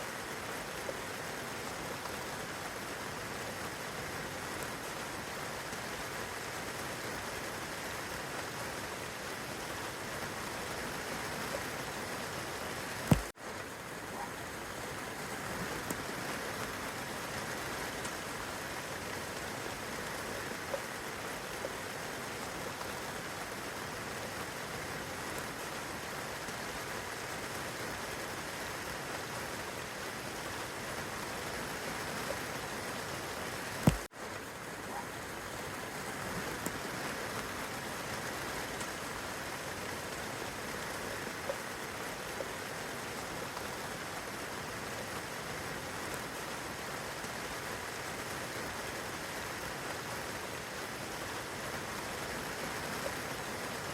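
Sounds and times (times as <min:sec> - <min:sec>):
rain on leaves and grass: 0:00.0 - 0:53.9.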